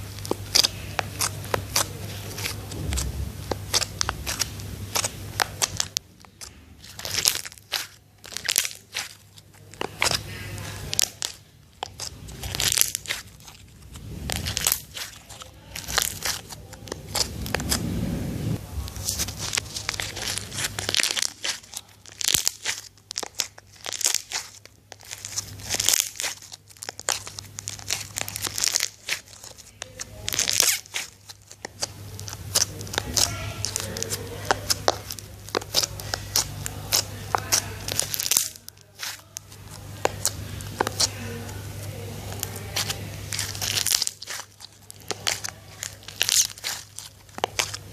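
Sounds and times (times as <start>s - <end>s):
slime squeezed with crackling pops: 0.1s - 17.8s, 18.8s - 41.1s, 42.3s - 47.9s.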